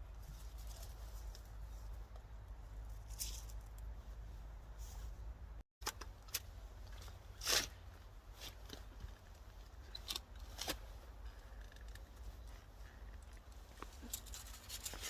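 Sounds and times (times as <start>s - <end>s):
tubers and soil crunching: 0.0s - 5.2s, 5.8s - 15.0s.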